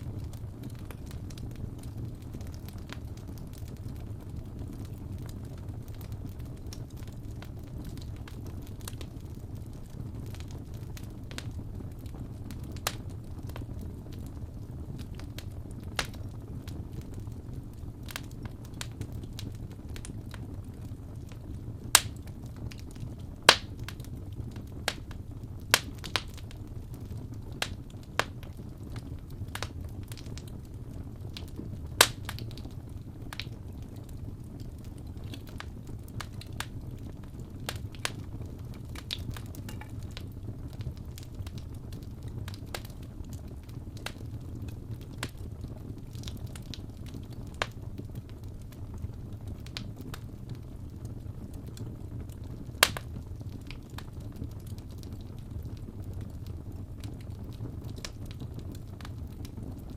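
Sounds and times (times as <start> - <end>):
burning logs popping: 0.0 - 59.9
flames rumbling: 0.0 - 59.9
wood fire crackling: 0.0 - 59.9.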